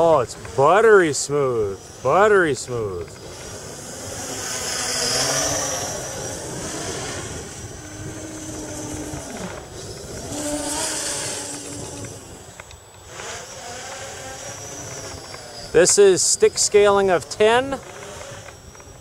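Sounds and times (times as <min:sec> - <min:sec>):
quadcopter propellers buzzing: 0:00.0 - 0:19.0.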